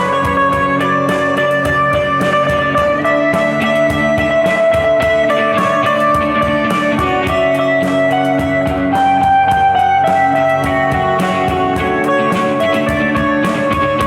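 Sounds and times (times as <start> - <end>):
electric guitar chords: 0.0 - 14.0
steady drum beat: 0.0 - 14.0.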